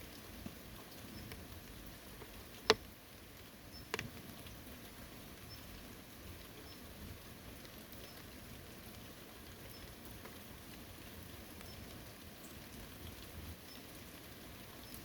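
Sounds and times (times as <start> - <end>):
rain falling on forest: 0.0 - 15.0.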